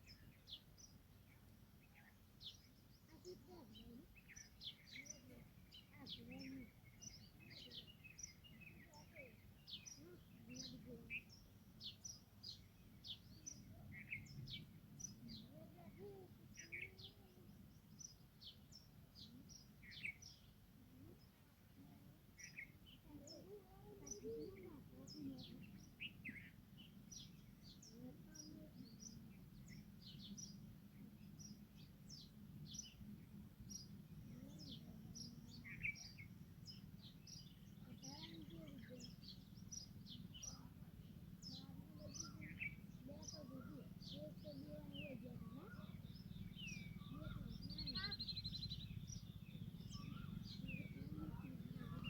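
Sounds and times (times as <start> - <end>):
low steady background noise: 0.0 - 52.0
small birds chirping: 0.0 - 52.0.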